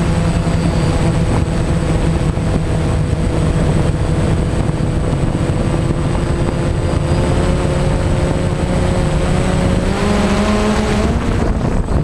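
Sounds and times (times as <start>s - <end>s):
drone propellers whining: 0.0s - 12.0s
wind rumble on microphone: 0.0s - 12.0s.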